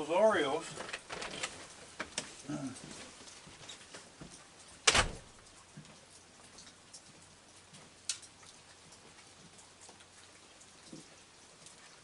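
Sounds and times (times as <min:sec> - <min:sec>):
drips and ticks: 0:00.0 - 0:12.0
heavy rain falling: 0:00.0 - 0:12.0.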